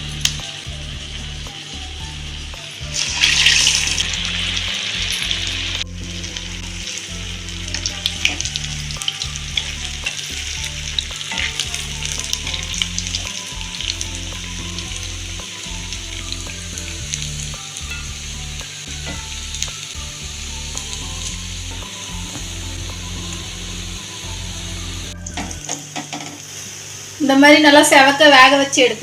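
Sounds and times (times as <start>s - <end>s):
fritters sizzling in hot oil: 0.0s - 29.0s.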